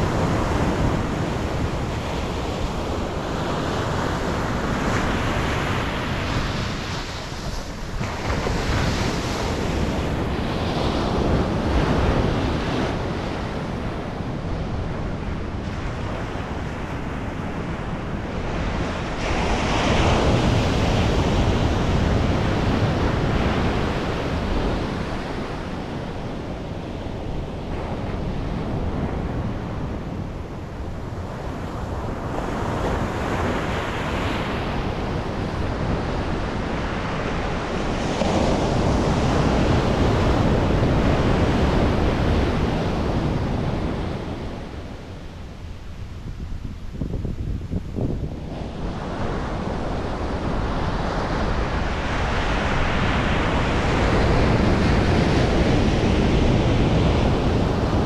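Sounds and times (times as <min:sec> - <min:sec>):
ocean surf breaking: 0:00.0 - 0:58.0
wind rumbling on microphone: 0:00.0 - 0:58.0.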